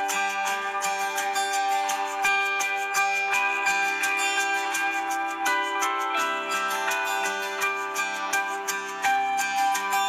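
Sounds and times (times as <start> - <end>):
instrumental music with light beat: 0.0 - 10.0.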